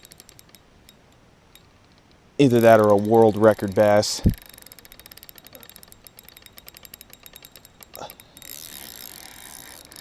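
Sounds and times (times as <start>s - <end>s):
fishing reel clicking rapidly: 0.0s - 10.0s.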